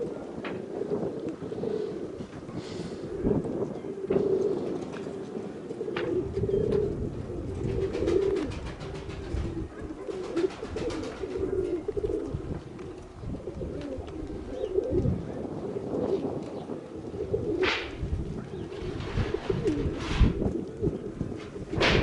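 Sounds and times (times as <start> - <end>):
pigeons cooing: 0.0 - 22.0
wind rumbling on microphone: 0.0 - 22.0.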